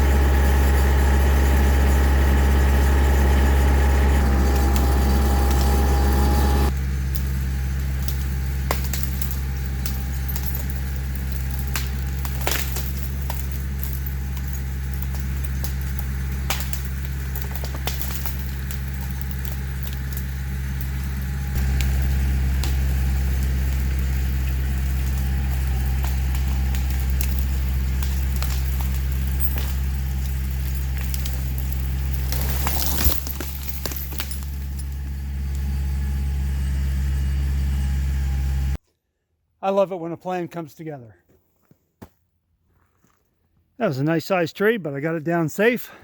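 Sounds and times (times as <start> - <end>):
tractor diesel engine running: 0.0 - 38.8.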